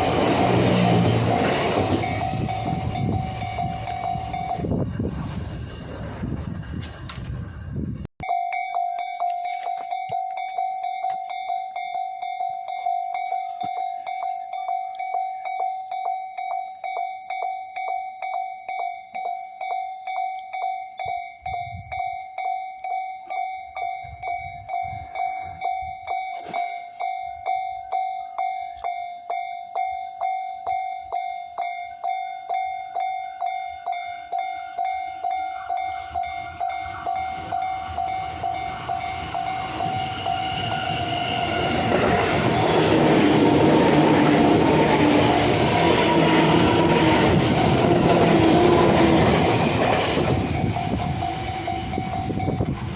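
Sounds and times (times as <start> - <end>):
level-crossing warning bell: 0.0 - 5.0, 8.2 - 52.9
train running noise: 0.0 - 52.9.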